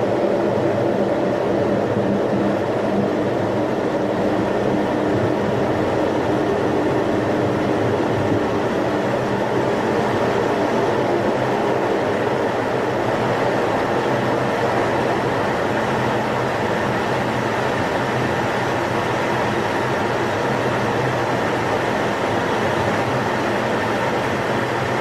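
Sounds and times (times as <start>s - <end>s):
jet engine and airflow drone: 0.0s - 25.0s.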